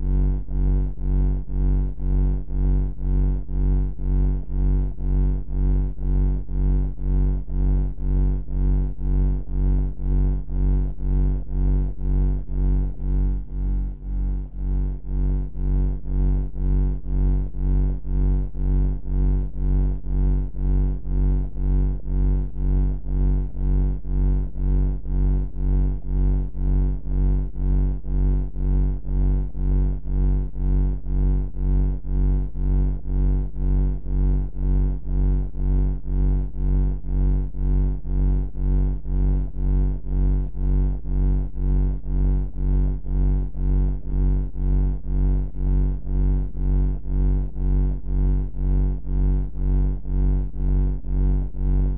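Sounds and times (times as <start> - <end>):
low pulsing droning hum: 0.0 - 51.9.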